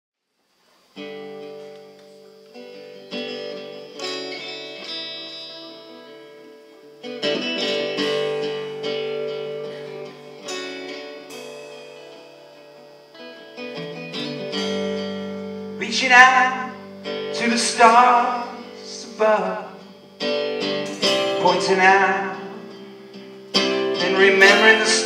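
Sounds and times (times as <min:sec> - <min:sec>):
acoustic guitars strumming chords: 0:00.9 - 0:25.0.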